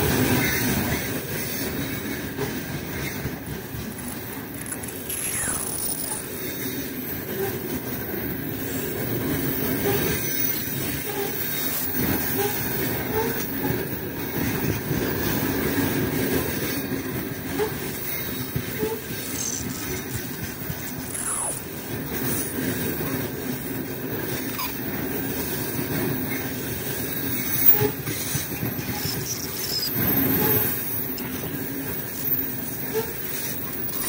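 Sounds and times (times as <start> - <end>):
train wheels rumbling on rails: 0.0 - 5.1, 6.2 - 34.0.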